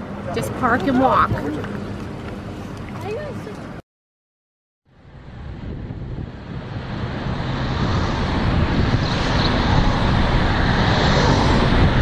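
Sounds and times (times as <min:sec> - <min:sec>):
car road noise rumble: 0:00.0 - 0:03.8, 0:04.9 - 0:12.0.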